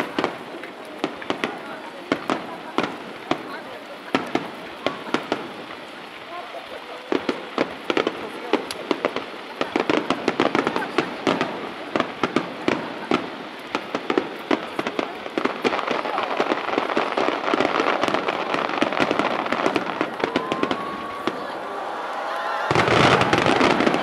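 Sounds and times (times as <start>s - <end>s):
fireworks crackling: 0.0s - 24.0s.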